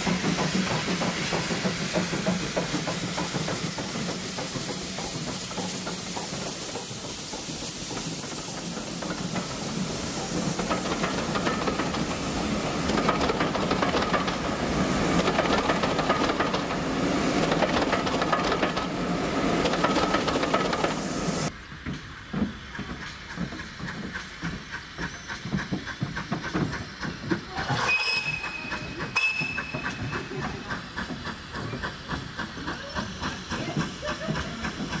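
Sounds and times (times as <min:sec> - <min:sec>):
high squeal of train wheels: 0:00.0 - 0:18.6, 0:22.2 - 0:35.0
train wheels clattering over rail joints: 0:00.0 - 0:19.0, 0:19.6 - 0:21.0, 0:21.7 - 0:35.0.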